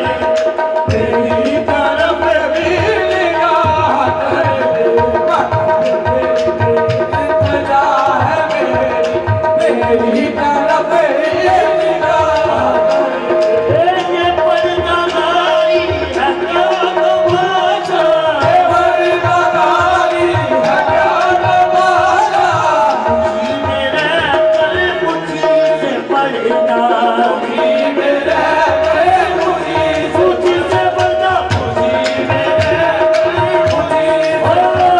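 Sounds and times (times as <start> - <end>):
qawwali singing and melody: 0.0 - 34.9
tabla drumming: 0.0 - 34.9.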